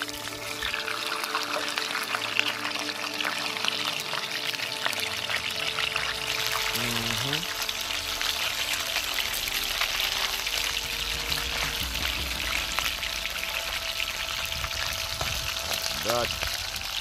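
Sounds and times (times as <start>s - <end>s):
food frying in hot oil: 0.0s - 17.0s.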